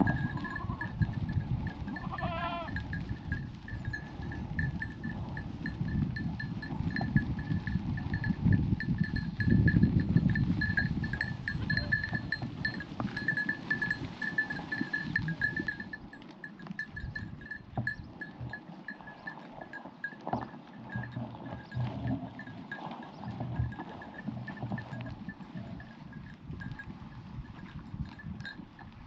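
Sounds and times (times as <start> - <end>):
goat bell clinking: 0.0 - 29.0.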